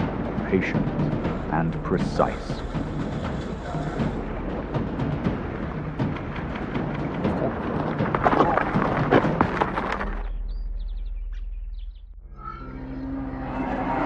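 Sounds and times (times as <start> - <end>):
low drone: 0.0 - 9.1, 11.6 - 14.0.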